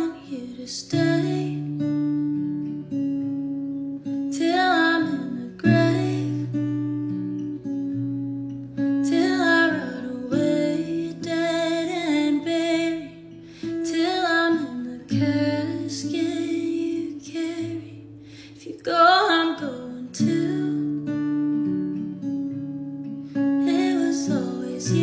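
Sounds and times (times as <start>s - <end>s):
woman singing: 0.0s - 3.0s, 4.0s - 7.7s, 8.8s - 22.0s, 23.3s - 25.0s
acoustic guitar chords: 0.0s - 25.0s.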